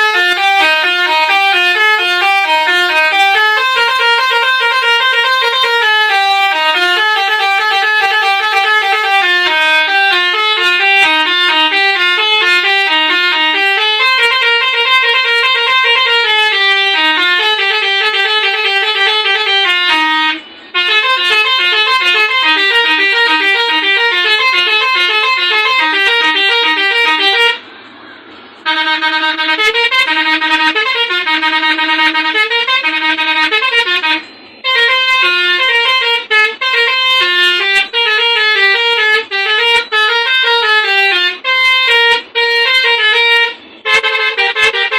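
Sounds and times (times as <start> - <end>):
bus horn playing multi-note melodies: 0.0 - 27.8, 28.5 - 44.9.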